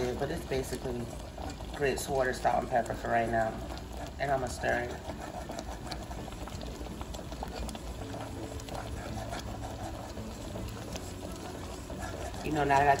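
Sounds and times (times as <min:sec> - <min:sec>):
whisk churning bubbling grits: 0:00.0 - 0:13.0.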